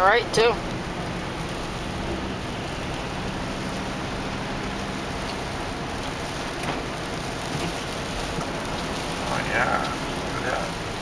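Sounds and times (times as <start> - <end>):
faint low engine hum: 0.0 - 11.0
tyres hissing on wet road: 0.0 - 11.0.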